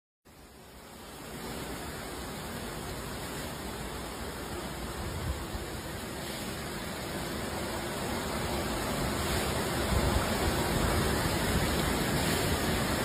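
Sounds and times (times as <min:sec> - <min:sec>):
floodwater running down street: 0:00.3 - 0:13.0
heavy rain: 0:00.3 - 0:13.0.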